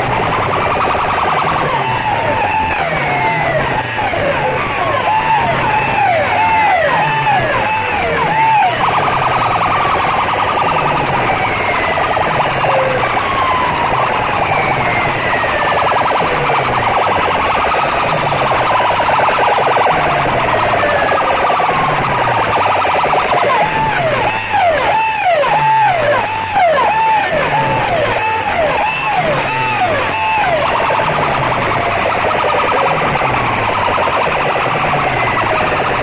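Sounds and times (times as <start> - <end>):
electronic siren wails: 0.0 - 36.0.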